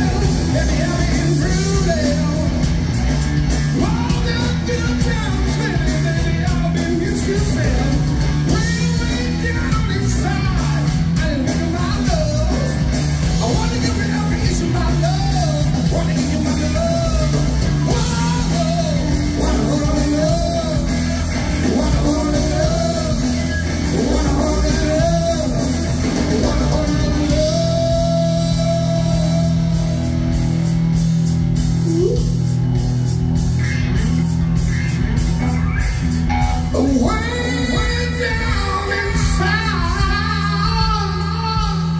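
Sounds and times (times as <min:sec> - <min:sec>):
man singing: 0:00.0 - 0:02.7, 0:03.7 - 0:30.4, 0:35.5 - 0:41.9
rock band playing: 0:00.0 - 0:41.9.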